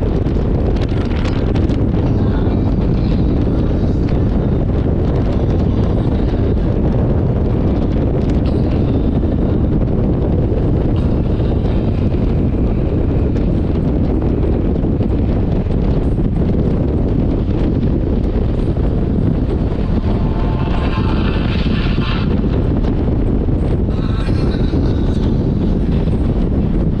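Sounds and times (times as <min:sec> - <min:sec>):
road noise: 0:00.0 - 0:27.0
wind buffeting microphone: 0:00.0 - 0:27.0.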